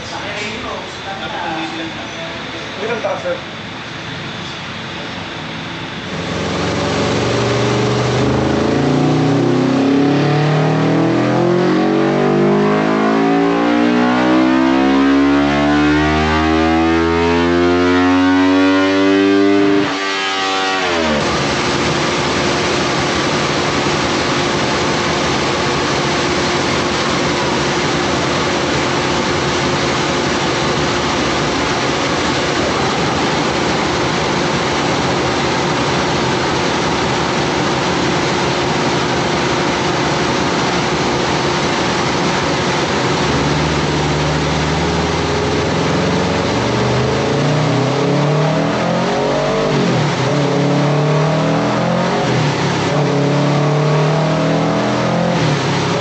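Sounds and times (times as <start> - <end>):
steady hum: 0.0 - 20.0, 20.7 - 56.0
motorcycle engine revving: 6.1 - 56.0.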